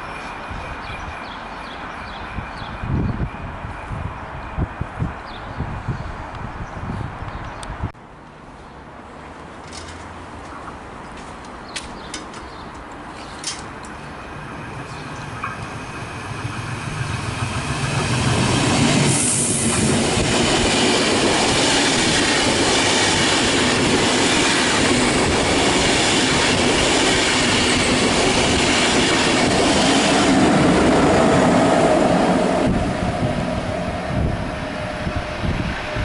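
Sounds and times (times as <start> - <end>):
train passing at speed: 0.0 - 7.7, 8.5 - 36.0.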